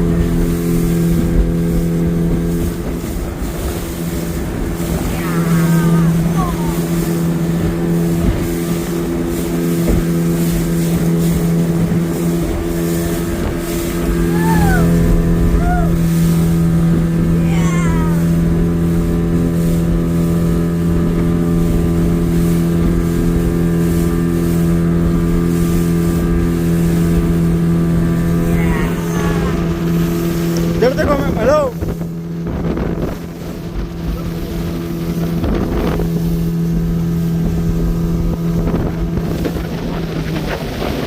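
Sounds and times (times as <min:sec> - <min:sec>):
motorboat engine: 0:00.0 - 0:41.0.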